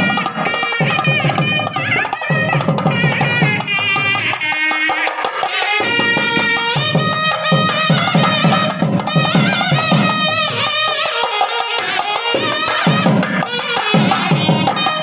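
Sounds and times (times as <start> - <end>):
steady drum beat: 0.0 - 11.0, 11.6 - 15.0.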